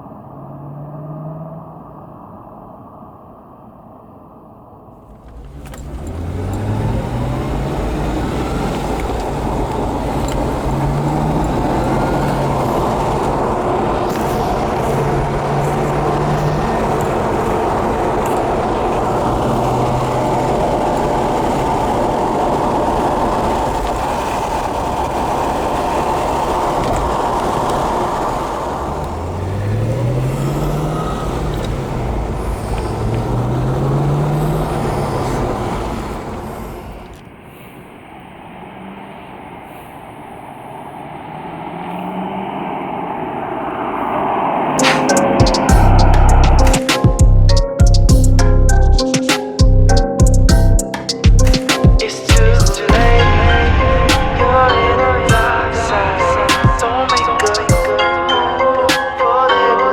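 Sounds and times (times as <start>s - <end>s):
car engine accelerating: 0.0s - 2.2s, 5.0s - 37.4s, 38.4s - 59.9s
road and wind noise: 0.0s - 59.9s.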